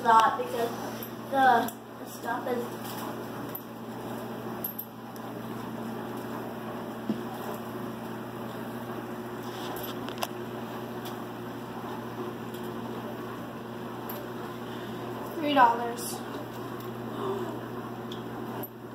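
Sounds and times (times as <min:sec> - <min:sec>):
low mechanical hum: 0:00.0 - 0:18.9.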